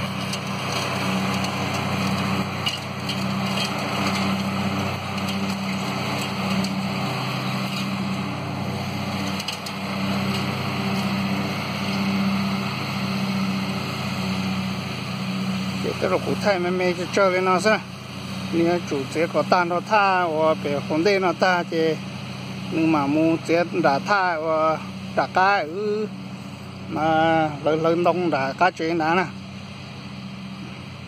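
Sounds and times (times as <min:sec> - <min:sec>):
lawn mower engine cutting grass: 0:00.0 - 0:31.0.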